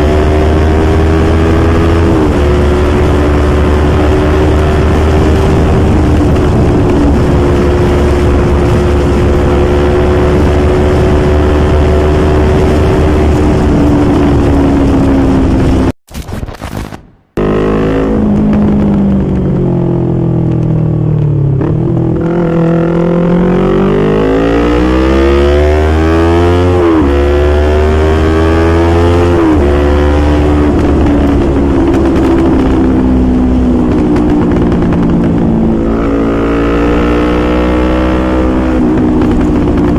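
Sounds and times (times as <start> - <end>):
motorcycle engine revving: 0.0 - 16.0, 17.3 - 39.9.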